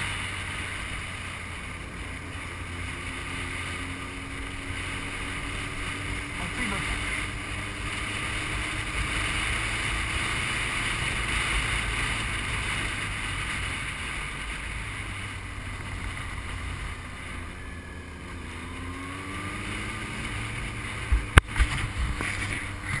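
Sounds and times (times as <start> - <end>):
motorcycle engine running: 0.0 - 23.0
wind on microphone: 0.0 - 23.0.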